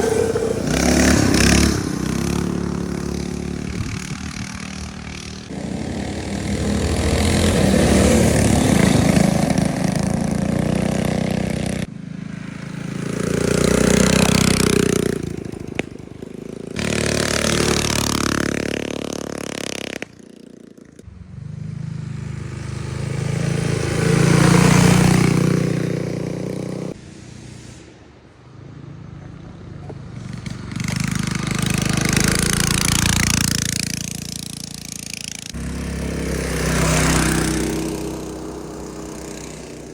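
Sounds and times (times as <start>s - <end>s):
minibike engines revving: 0.0s - 27.8s, 28.6s - 39.9s.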